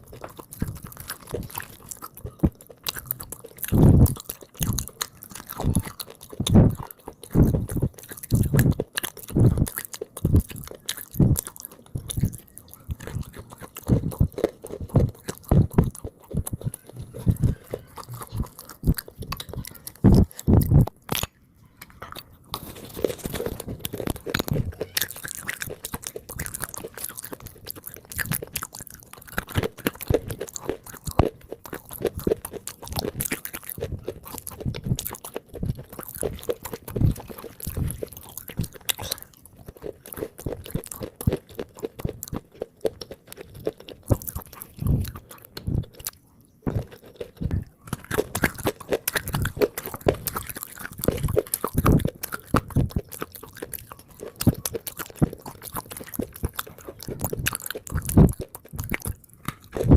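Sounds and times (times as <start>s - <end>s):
chewing crunchy clay: 0.0s - 59.9s.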